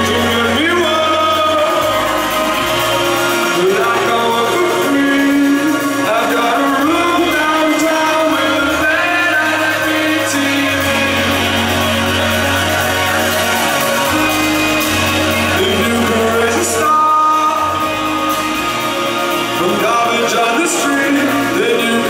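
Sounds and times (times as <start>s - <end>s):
bass guitar: 0.0s - 22.0s
drums: 0.0s - 22.0s
man singing lead: 0.0s - 22.0s.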